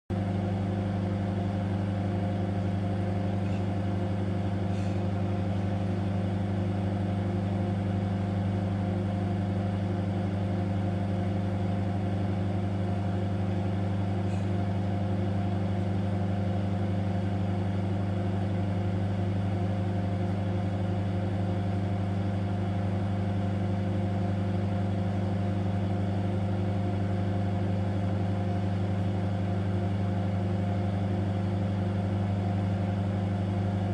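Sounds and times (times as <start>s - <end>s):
microwave oven humming: 0.1s - 33.9s.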